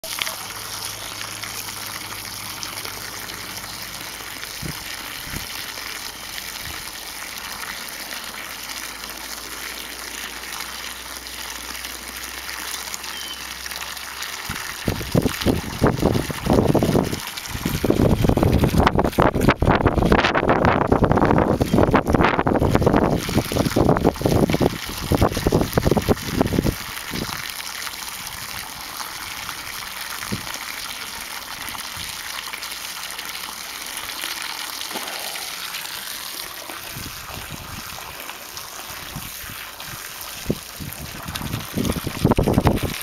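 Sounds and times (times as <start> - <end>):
hose stream splashing into water: 0.0 - 43.0.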